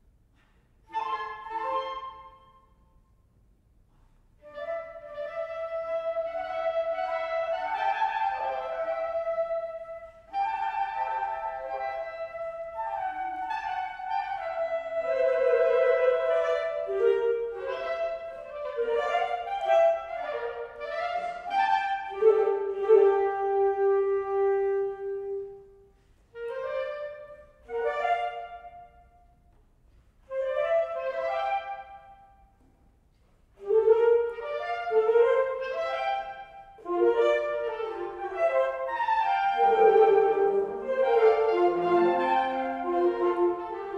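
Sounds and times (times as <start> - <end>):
woodwind ensemble playing: 0.8 - 2.6, 4.4 - 29.4, 30.2 - 32.5, 33.6 - 43.9.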